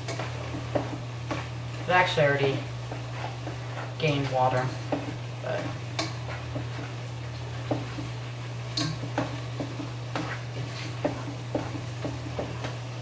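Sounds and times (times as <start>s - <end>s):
utensil scraping and tapping pot: 0.0s - 1.6s, 2.8s - 12.8s
steady low hum: 0.0s - 13.0s
steak simmering: 0.0s - 13.0s.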